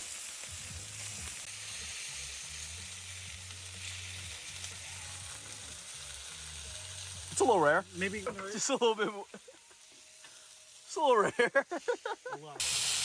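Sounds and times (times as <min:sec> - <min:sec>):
steaks sizzling in a pan: 0:00.0 - 0:13.0.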